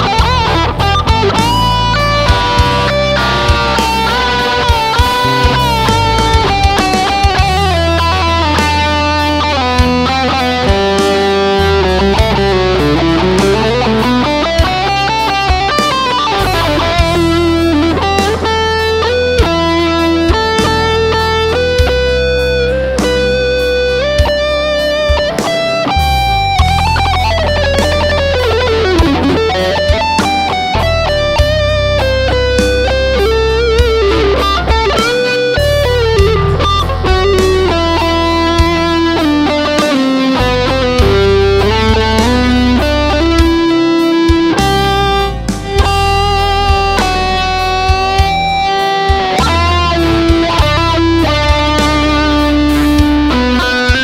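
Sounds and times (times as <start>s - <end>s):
electric guitar lead melody: 0.0s - 54.0s
low backing with regular beat: 0.0s - 54.0s.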